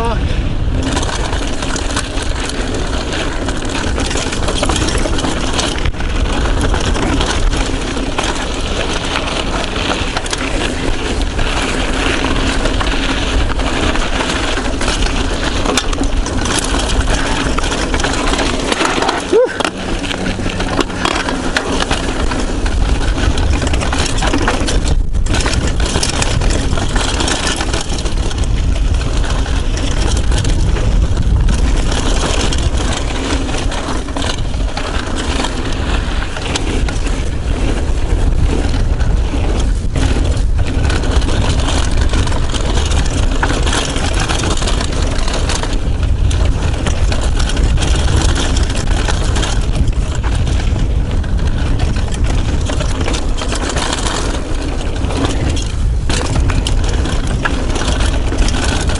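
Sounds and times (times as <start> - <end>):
bike rattling: 0.0 - 58.9
bike tyres rumbling on dirt: 0.0 - 58.9
wind buffeting microphone: 0.0 - 58.9.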